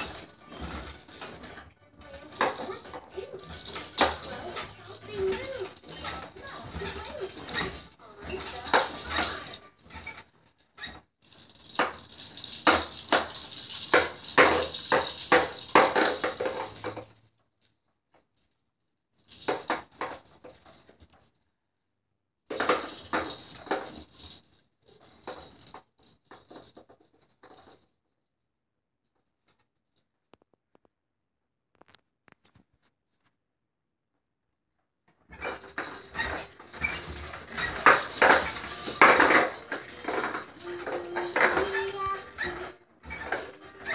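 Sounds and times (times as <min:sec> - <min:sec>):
plastic toys rattling and clattering: 0:00.0 - 0:21.5, 0:22.5 - 0:28.1, 0:35.1 - 0:43.9.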